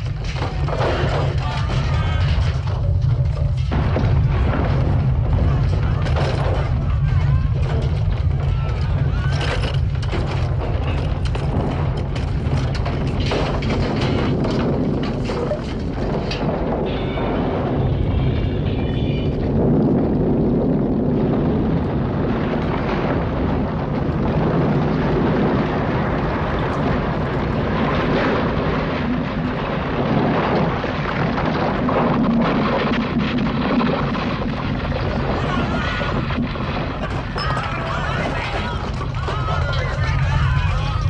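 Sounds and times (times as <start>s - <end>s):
deep earthquake rumble: 0.0s - 41.0s
masonry crashing and falling: 0.0s - 41.0s.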